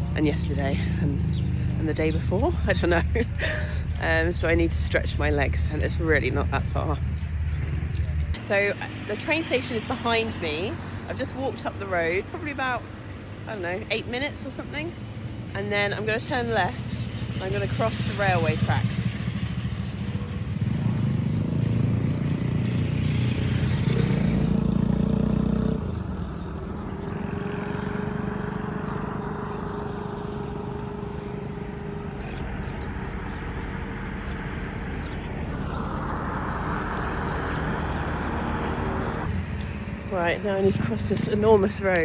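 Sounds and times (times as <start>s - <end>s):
road traffic engines rumbling: 0.0s - 42.0s.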